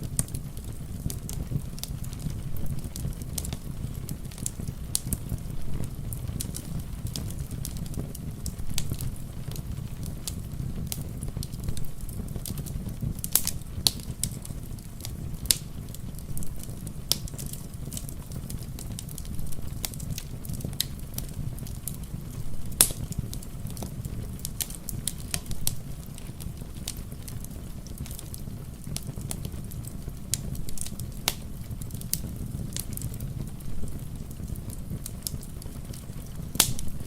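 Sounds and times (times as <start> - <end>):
low rumble of rain: 0.0 - 37.0
wood fire crackling and popping: 0.0 - 37.0.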